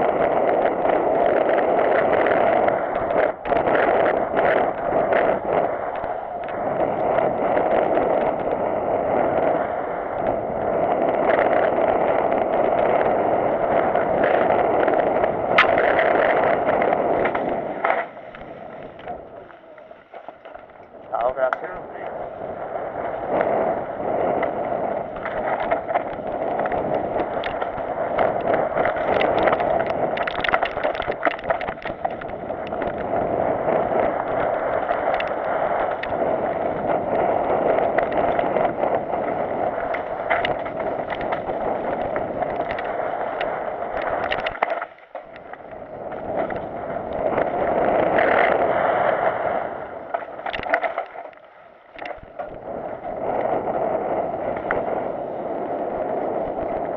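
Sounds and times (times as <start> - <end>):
bike rattling over stones: 0.0 - 9.6, 10.3 - 55.2
rush of tyres and wind: 0.0 - 56.9.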